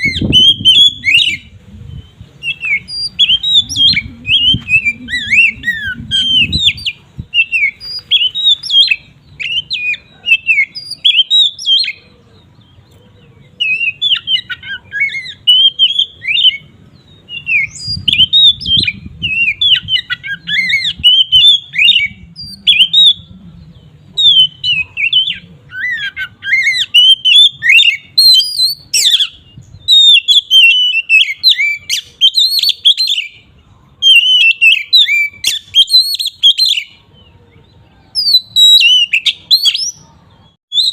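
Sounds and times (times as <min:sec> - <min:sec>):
songbird whistling and chattering: 0:00.0 - 0:40.9.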